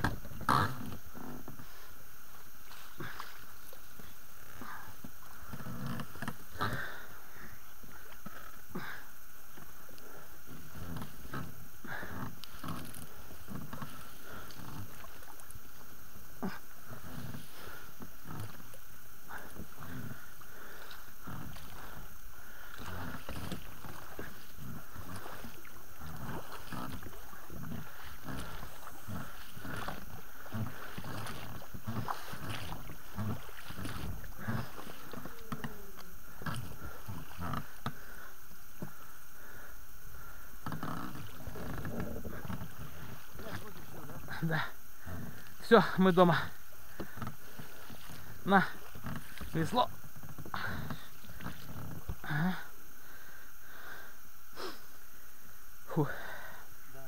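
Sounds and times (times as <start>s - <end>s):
water splashing: 0.0s - 39.1s, 40.2s - 52.3s.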